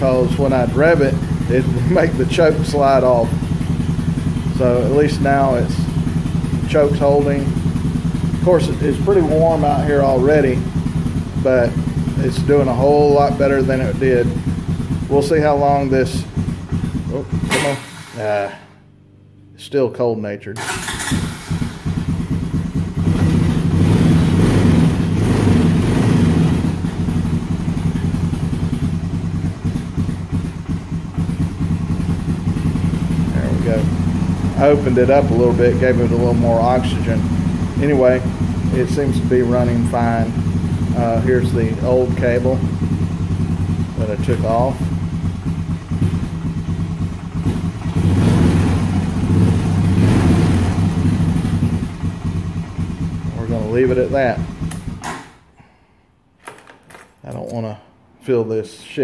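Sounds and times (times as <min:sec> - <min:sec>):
quad bike engine running: 0:00.0 - 0:18.6, 0:20.6 - 0:55.1.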